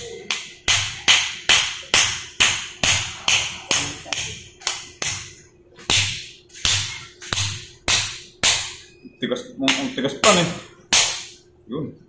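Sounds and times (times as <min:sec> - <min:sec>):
crab shell being pounded: 0:00.2 - 0:08.8, 0:09.7 - 0:11.4.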